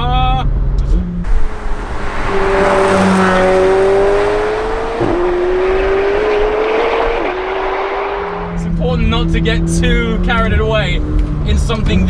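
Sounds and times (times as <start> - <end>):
car engine accelerating hard: 1.2 - 12.0.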